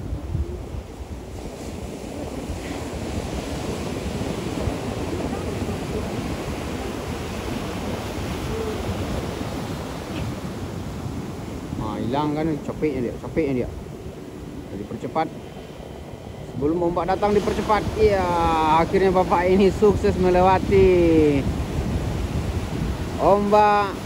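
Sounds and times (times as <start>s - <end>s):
surf breaking: 0.0s - 24.0s
wind buffeting microphone: 0.0s - 24.0s.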